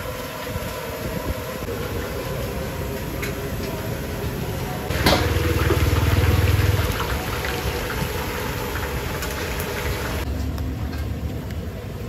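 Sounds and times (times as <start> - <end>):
hot oil sizzling in a fryer: 0.0 - 10.3.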